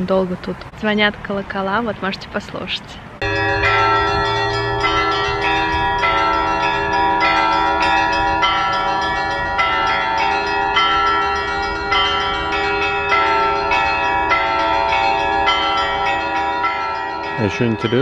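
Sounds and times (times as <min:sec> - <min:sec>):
church bells ringing a peal: 0:03.2 - 0:18.0.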